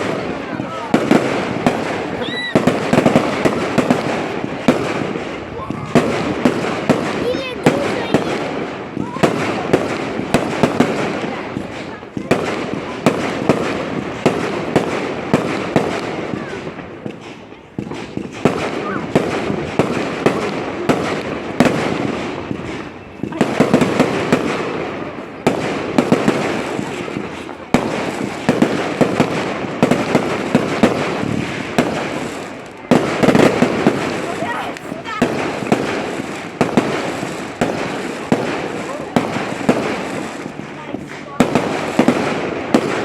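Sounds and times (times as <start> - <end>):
rumble of firework explosions: 0.0 - 43.0
sharp firework bangs: 0.0 - 43.0.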